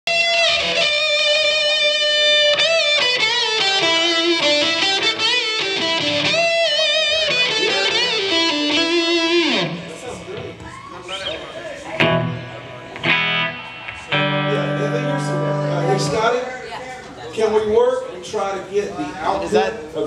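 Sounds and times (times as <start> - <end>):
electric guitar lead line: 0.1 - 10.6, 11.2 - 16.8.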